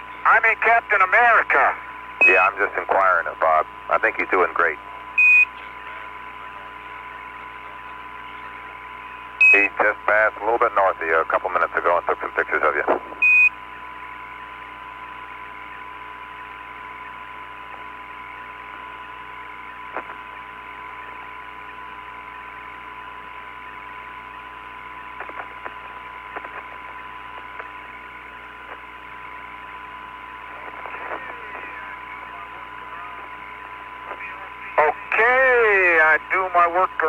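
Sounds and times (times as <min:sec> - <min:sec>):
hum: 0:00.0 - 0:37.0
radio channel hiss: 0:00.0 - 0:37.0.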